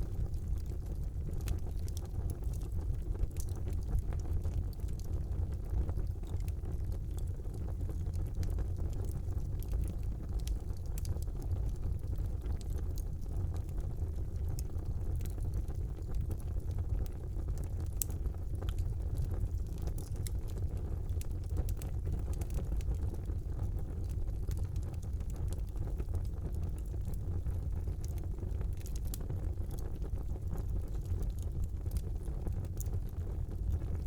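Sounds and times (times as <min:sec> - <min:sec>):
fire crackles and pops: 0:00.0 - 0:34.0
fire rumbling in fireplace: 0:00.0 - 0:34.0.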